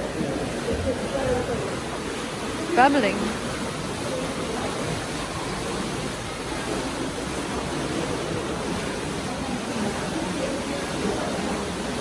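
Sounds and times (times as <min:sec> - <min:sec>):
water bubbling and rushing: 0:00.0 - 0:12.0.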